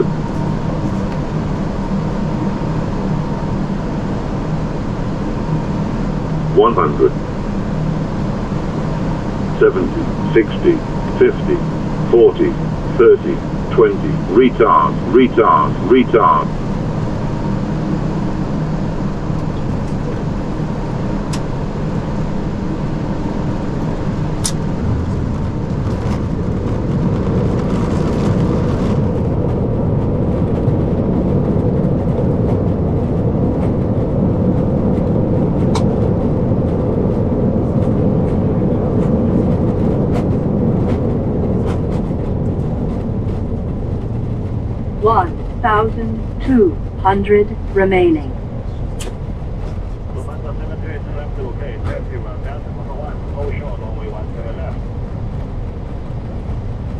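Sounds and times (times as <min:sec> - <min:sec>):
jet engines and wheels rumbling: 0:00.0 - 0:56.9.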